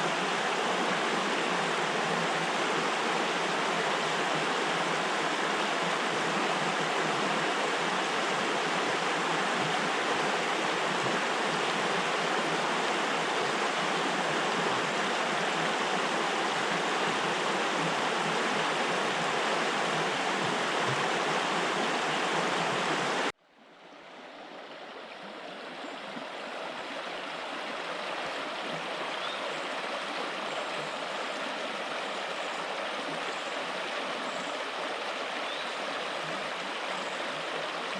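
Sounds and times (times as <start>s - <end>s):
stream flowing: 0.0s - 37.9s.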